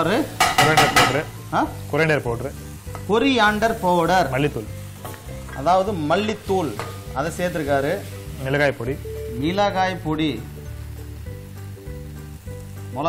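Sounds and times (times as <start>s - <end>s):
masala sizzling in hot oil: 0.0s - 13.0s.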